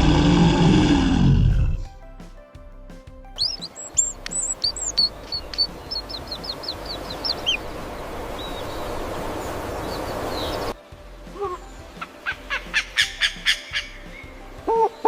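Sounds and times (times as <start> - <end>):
steady rushing noise: 0.0 - 15.0
bird chirping: 1.3 - 15.0.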